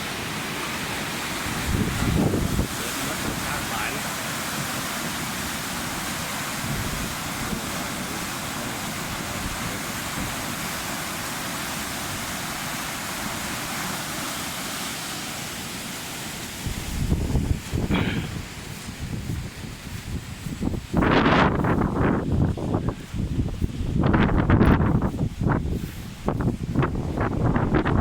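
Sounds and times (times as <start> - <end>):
water rushing through sluice gates: 0.0 - 23.7.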